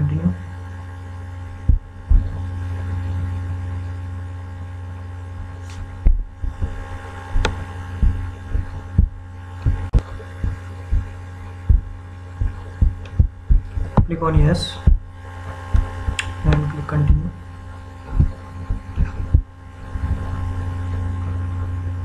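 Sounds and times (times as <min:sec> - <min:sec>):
low electrical hum: 0:00.0 - 0:22.0
low thumps and clicks: 0:01.6 - 0:03.9, 0:05.3 - 0:17.4, 0:18.0 - 0:21.4.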